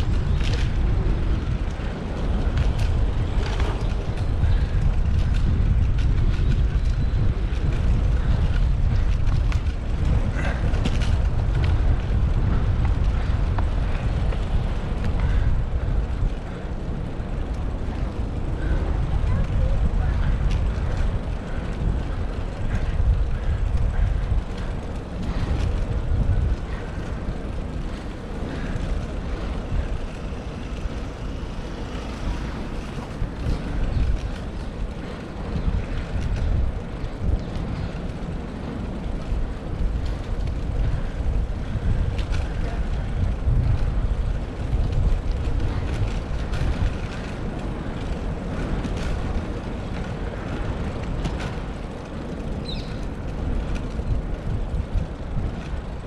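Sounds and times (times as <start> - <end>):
gusting wind rumble on microphone: 0.0 - 56.0
road traffic: 0.0 - 56.0.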